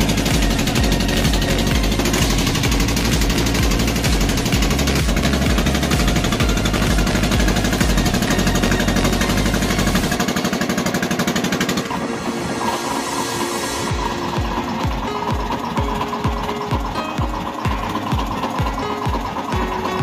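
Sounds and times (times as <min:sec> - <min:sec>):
boat engine puttering: 0:00.0 - 0:20.0.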